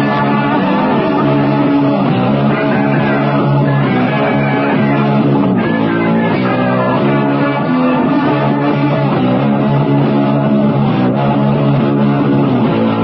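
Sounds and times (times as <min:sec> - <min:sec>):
rock music on radio: 0:00.0 - 0:13.0.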